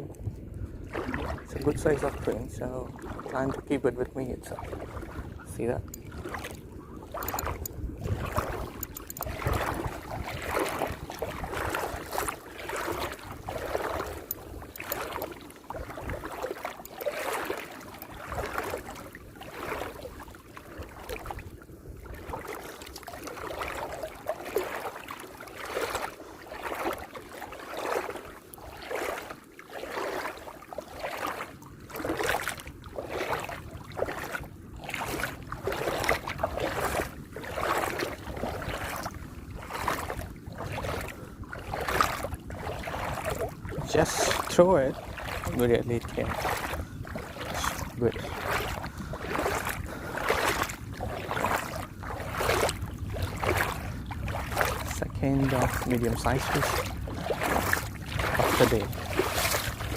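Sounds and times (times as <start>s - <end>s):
water sloshing and lapping: 0.0s - 59.9s.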